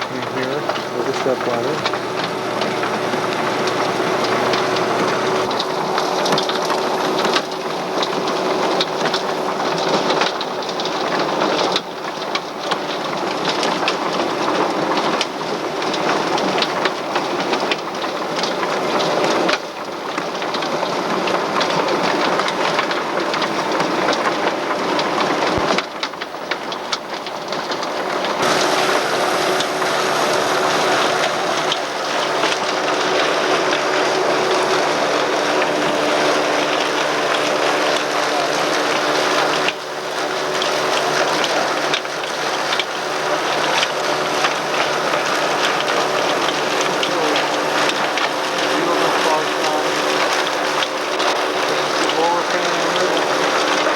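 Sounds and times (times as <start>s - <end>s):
farm machinery rattling: 0.0s - 53.9s.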